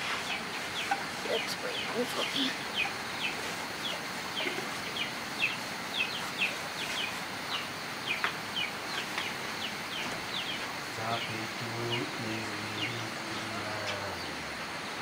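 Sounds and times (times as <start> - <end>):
bird chirping: 0.0 - 15.0
steady background hiss: 0.0 - 15.0.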